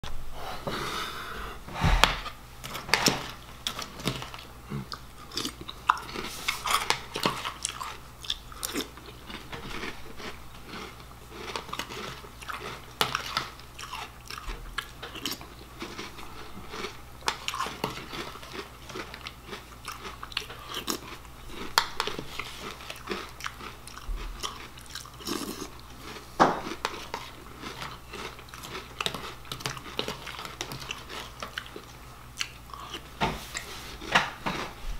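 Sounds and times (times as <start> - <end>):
man chewing crunchy cereal: 2.6 - 34.8.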